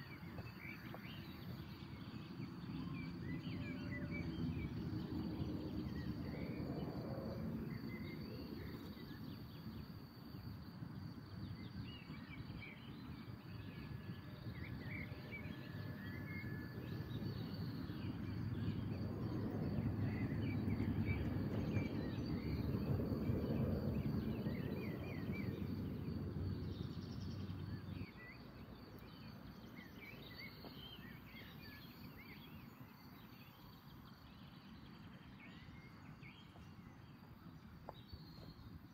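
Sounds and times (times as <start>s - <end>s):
wind rumbling on microphone: 0.0s - 32.2s
small birds chirping: 0.0s - 38.9s.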